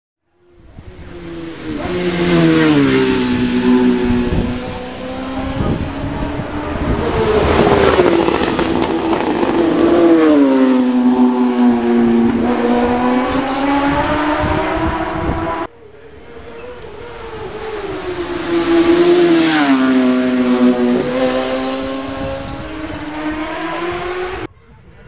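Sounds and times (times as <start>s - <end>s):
racing motorcycle engines revving: 0.4s - 24.5s.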